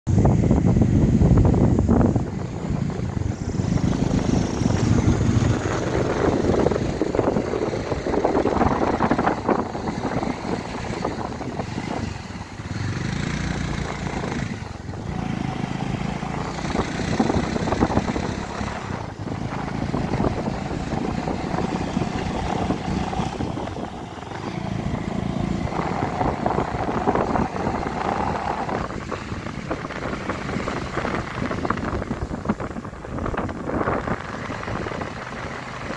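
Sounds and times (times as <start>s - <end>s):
motorcycle engine running: 0.1s - 35.9s
wind rushing over microphone: 0.1s - 35.9s.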